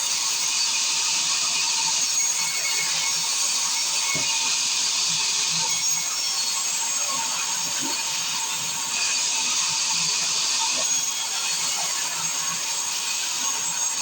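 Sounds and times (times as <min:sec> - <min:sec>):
circular saw whining: 0:00.0 - 0:14.0.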